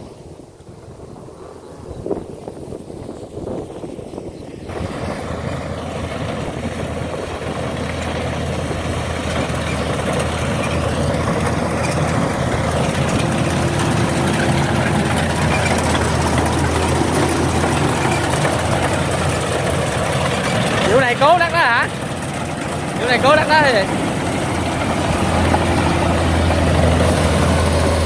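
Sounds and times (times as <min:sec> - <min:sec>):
combine harvester engine: 0:02.8 - 0:28.0.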